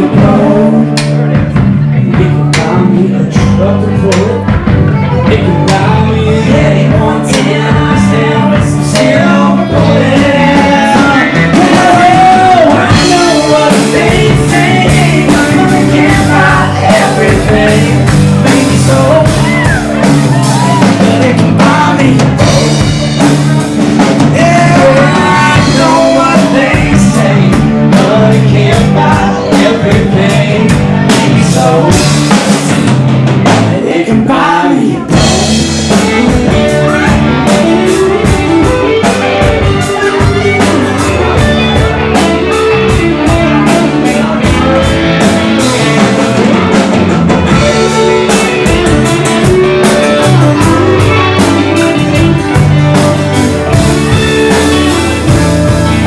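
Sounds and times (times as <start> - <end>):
drum kit: 0.0 - 56.0
electric bass: 0.0 - 56.0
guitar: 0.0 - 56.0.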